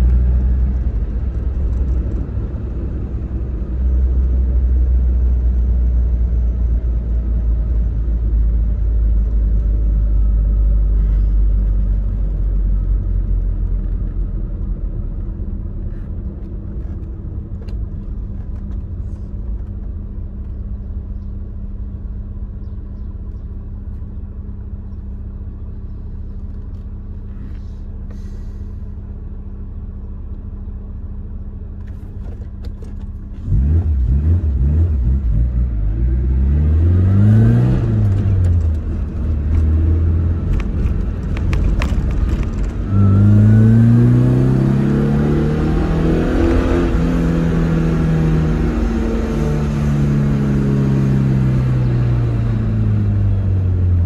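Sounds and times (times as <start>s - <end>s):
car engine heard from inside: 0.0s - 54.0s.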